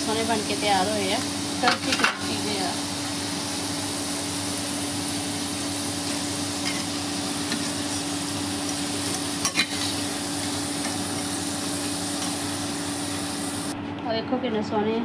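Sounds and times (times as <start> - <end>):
fries sizzling in hot oil: 0.0 - 13.8.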